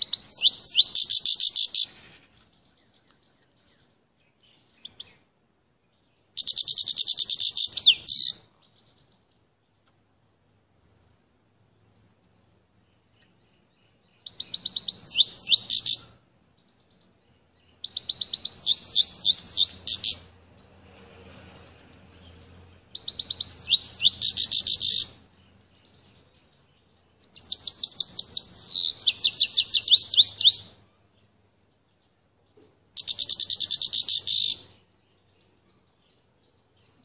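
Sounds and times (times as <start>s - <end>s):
canary singing trills: 0.0s - 5.2s, 5.9s - 9.9s, 12.8s - 37.0s.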